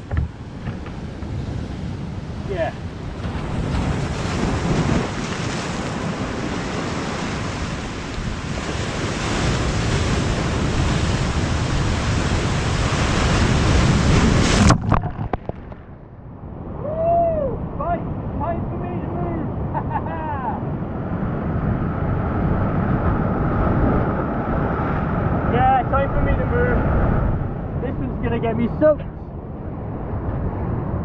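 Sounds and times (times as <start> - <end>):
sea surf on rocky shore: 0.0 - 29.0
strong wind on microphone: 0.0 - 31.0.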